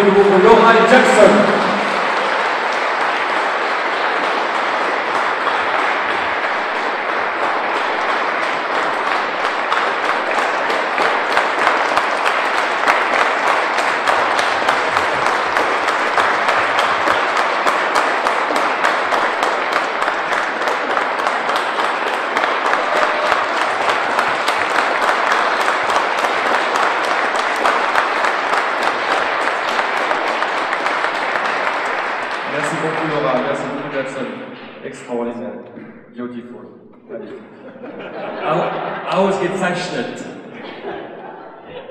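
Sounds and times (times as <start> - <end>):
audience applauding: 0.0 - 34.4.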